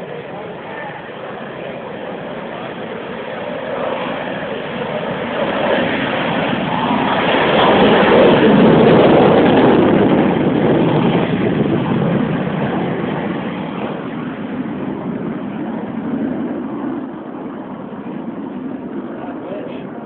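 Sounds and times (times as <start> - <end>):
aircraft flyby: 0.0 - 20.0.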